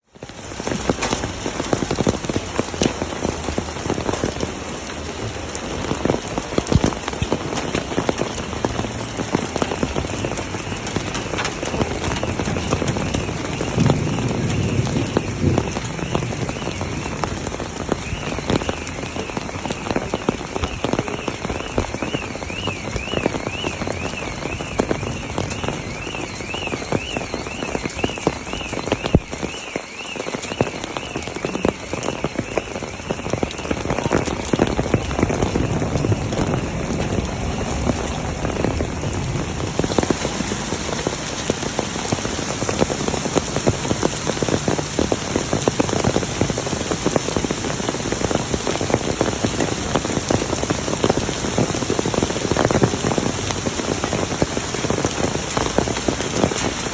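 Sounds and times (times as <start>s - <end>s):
hail and rain pelting: 0.0s - 56.9s.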